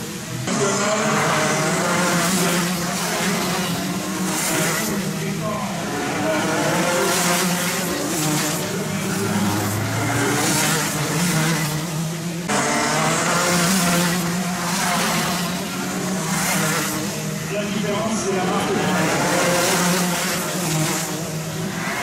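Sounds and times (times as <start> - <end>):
kart engines buzzing: 0.0 - 22.0.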